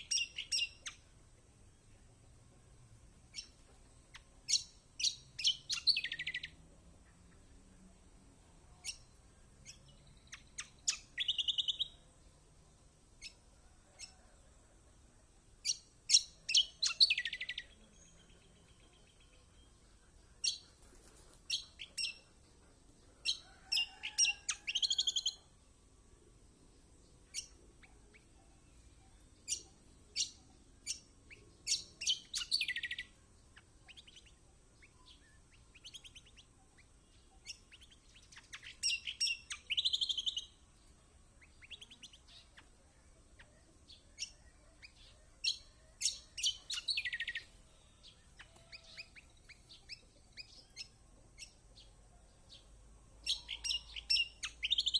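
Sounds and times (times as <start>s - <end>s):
bird chirps and trills: 0.0s - 1.1s, 3.3s - 7.5s, 8.8s - 12.1s, 15.6s - 22.3s, 23.2s - 25.5s, 27.1s - 54.9s.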